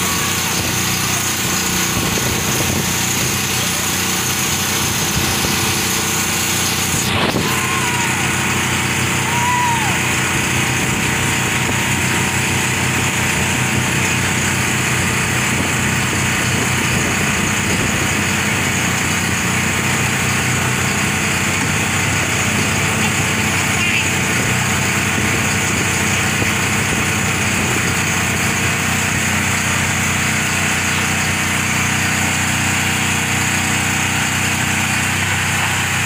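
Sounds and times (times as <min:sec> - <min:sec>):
rushing water: 0:00.0 - 0:36.0
speedboat engine running: 0:00.0 - 0:36.0
wind: 0:00.0 - 0:36.0.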